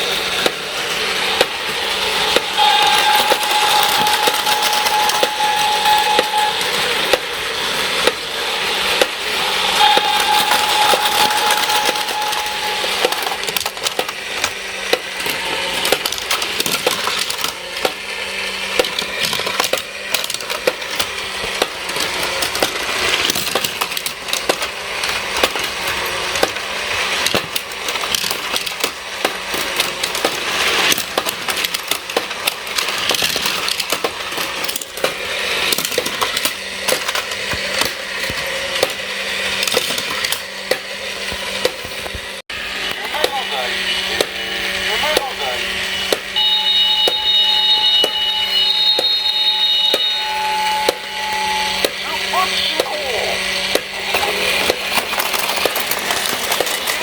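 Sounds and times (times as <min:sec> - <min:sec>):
toy trains clattering on track: 0:00.0 - 0:57.0.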